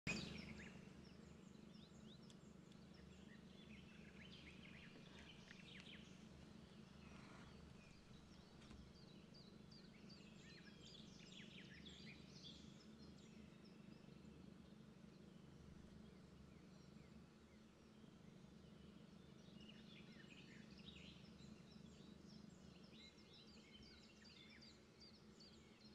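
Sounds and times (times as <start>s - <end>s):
steady low hum: 0.1s - 25.9s.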